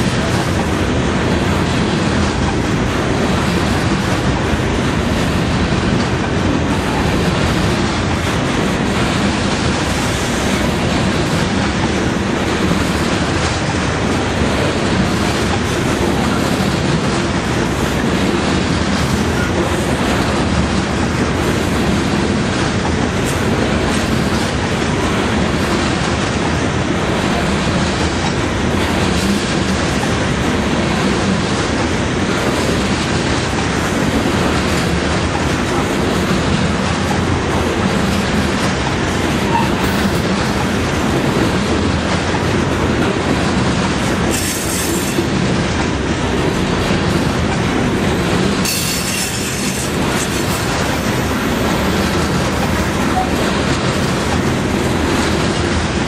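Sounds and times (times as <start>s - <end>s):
steel wheels rumbling on rail: 0.0s - 56.0s
wheel clickety-clack: 0.0s - 56.0s.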